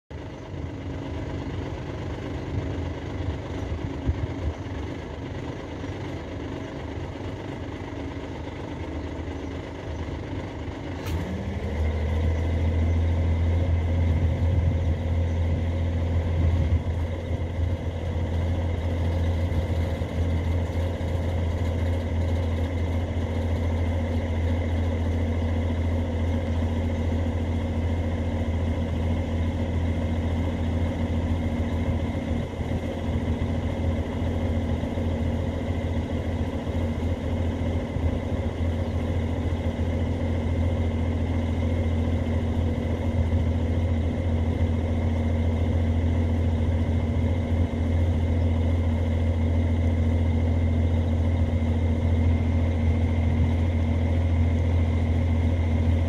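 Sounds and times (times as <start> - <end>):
truck engine idling: 0.1 - 56.0.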